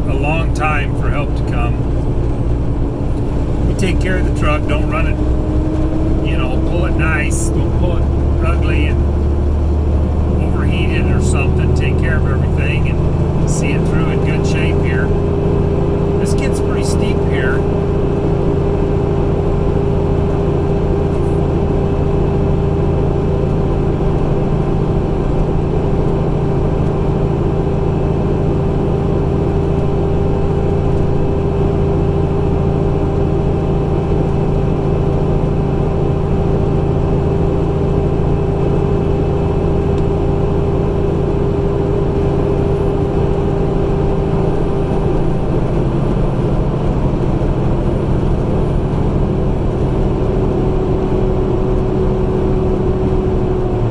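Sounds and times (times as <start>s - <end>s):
diesel truck engine under load: 0.0s - 53.9s.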